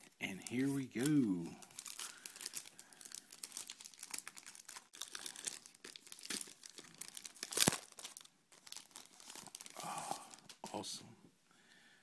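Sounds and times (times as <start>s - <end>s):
plastic wrap crinkling: 0.0s - 10.6s.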